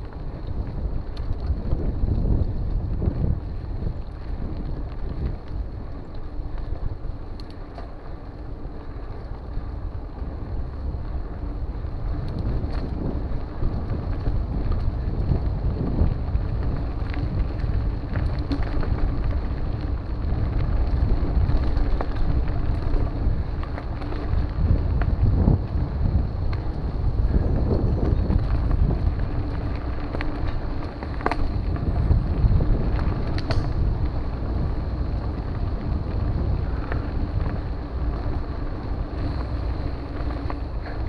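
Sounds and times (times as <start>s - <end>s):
bike clicks and rattles: 0.0s - 41.0s
tyres rumbling on dirt: 0.0s - 41.0s
wind buffeting microphone: 0.0s - 41.0s.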